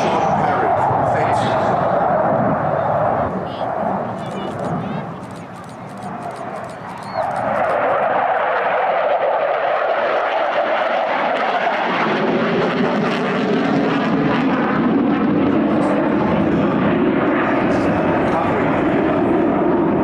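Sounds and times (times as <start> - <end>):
jet aircraft flying past: 0.0 - 20.0.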